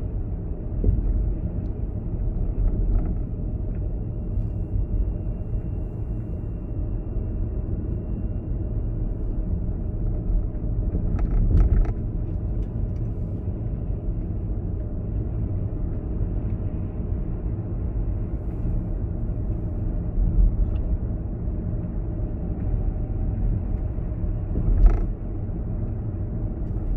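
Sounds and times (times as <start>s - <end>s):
car driving along a road: 0.0s - 26.9s.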